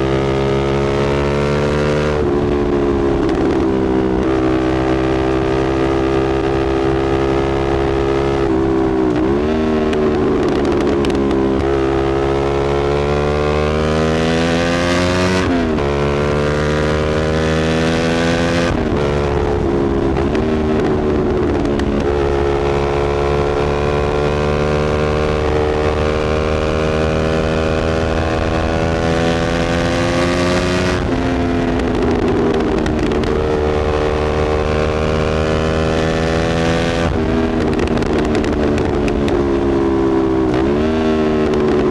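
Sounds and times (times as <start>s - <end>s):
motorcycle engine revving through gears: 0.0s - 41.9s.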